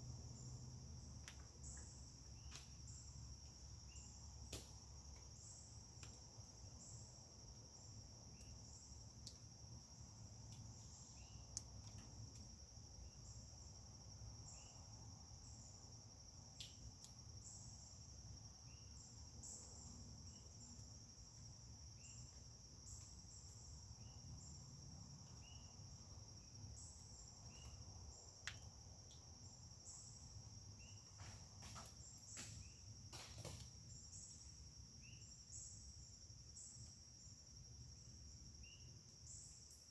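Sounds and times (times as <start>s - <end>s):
crickets trilling and chirping: 0.0s - 39.9s.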